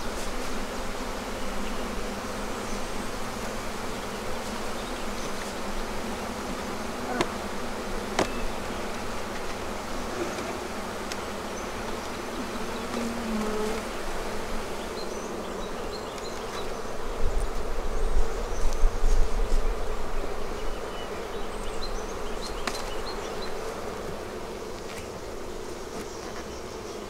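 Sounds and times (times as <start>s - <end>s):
bees humming: 0.0s - 27.0s.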